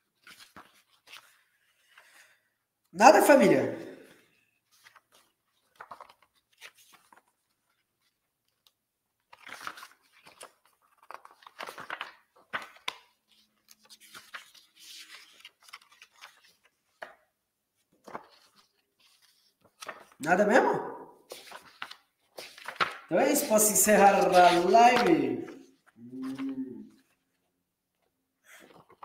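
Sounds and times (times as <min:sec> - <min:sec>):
paper rustling: 0:00.0 - 0:02.4, 0:03.3 - 0:29.0.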